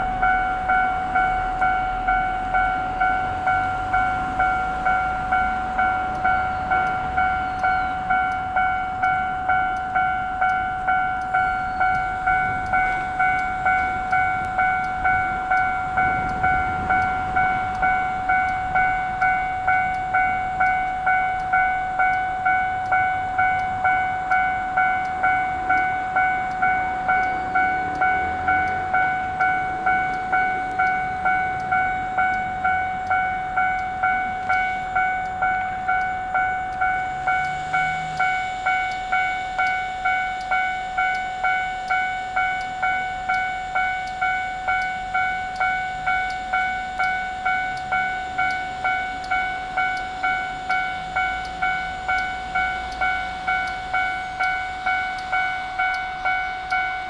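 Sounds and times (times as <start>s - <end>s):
level crossing alarm bell: 0.0s - 57.0s.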